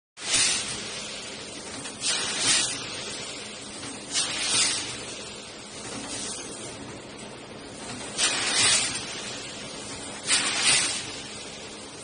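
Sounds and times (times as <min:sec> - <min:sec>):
compressed air hissing: 0:00.2 - 0:06.6, 0:08.1 - 0:12.0
packing machine running: 0:00.2 - 0:12.0.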